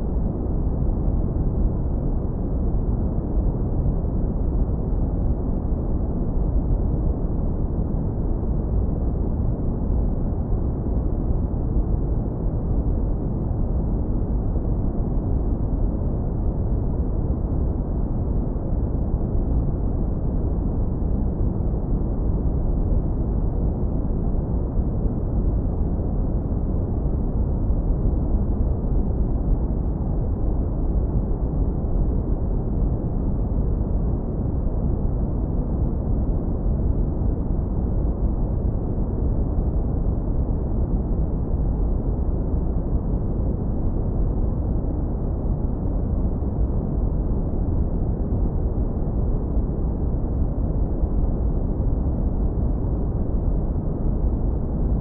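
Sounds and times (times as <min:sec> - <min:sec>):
low brown noise rumble: 0:00.0 - 0:55.0.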